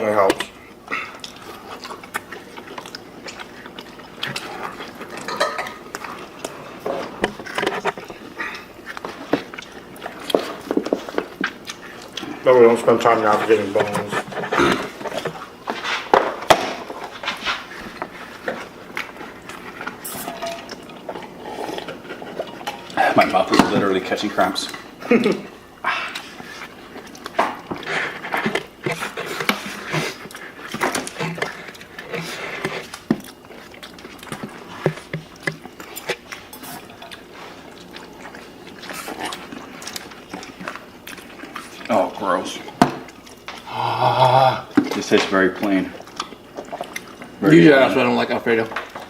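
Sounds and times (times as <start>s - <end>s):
chewing and handling food: 0.0s - 49.0s.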